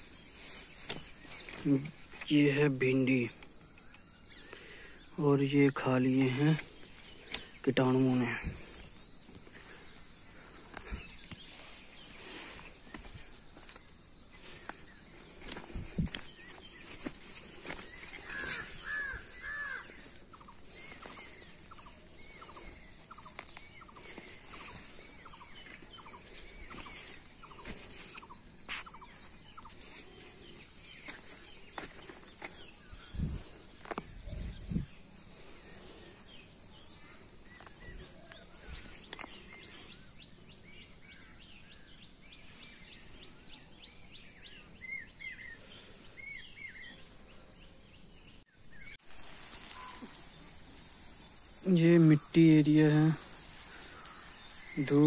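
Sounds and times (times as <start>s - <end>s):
birds chirping: 0.0s - 55.0s
outdoor background noise: 0.0s - 55.0s.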